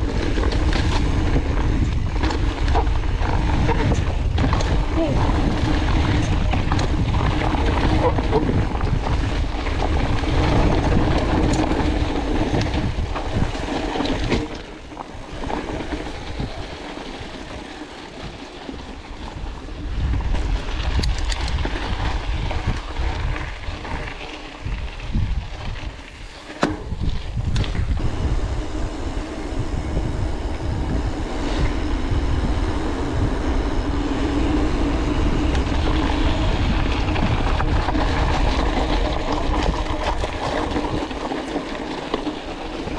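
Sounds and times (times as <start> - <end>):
bike rattling: 0.0 - 42.9
bike tyres rumbling on gravel: 0.0 - 42.9
wind buffeting microphone: 0.0 - 42.9.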